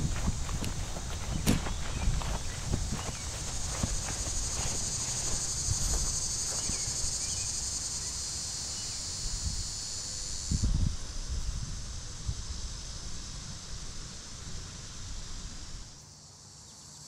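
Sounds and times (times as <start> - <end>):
wind rumble on microphone: 0.0 - 7.5, 9.1 - 15.9
insect chorus: 0.0 - 17.0.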